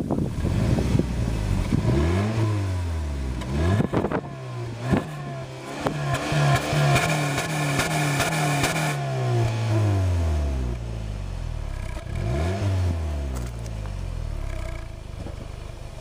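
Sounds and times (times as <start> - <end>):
car engine revving: 0.1 - 16.0
engine stuttering on rev limiter: 0.4 - 10.0, 11.6 - 13.6, 14.2 - 15.4.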